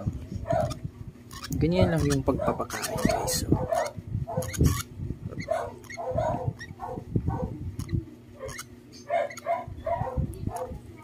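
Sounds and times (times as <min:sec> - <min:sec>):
bird chick raspy begging calls: 0:00.5 - 0:09.8.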